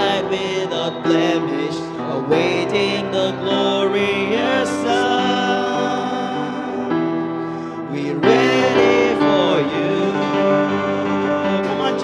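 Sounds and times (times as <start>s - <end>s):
band chords: 0.0s - 12.0s
person singing long notes: 0.0s - 12.0s.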